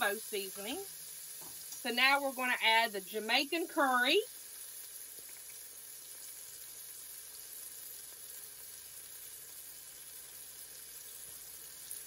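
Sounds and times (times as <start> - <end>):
oil sizzling with vegetables: 0.0 - 12.0.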